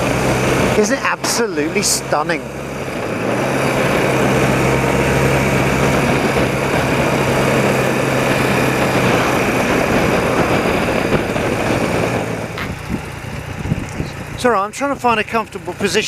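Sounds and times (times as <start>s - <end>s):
wind noise on microphone: 0.0s - 14.4s
motorcycle engine running: 0.0s - 16.0s.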